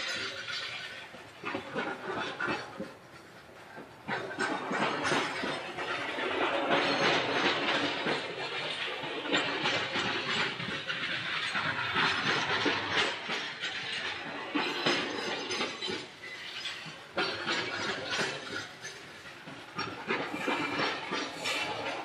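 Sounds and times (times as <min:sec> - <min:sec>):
freight train rumble and rattle: 0:00.0 - 0:22.0
train wheels clacking over rail joints: 0:00.0 - 0:22.0.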